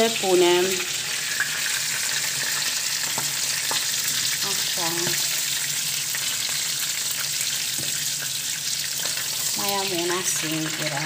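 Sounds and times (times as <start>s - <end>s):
sausages sizzling in oil: 0.0s - 11.0s.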